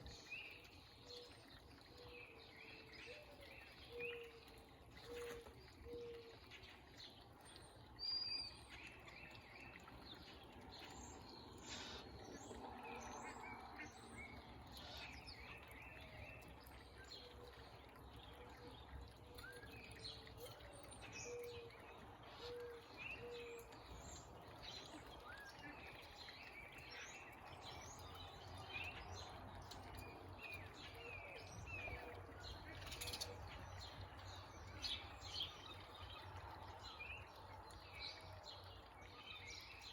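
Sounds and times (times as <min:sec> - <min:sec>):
faint steady background noise: 0:00.0 - 0:39.9
songbirds chirping: 0:00.0 - 0:39.9.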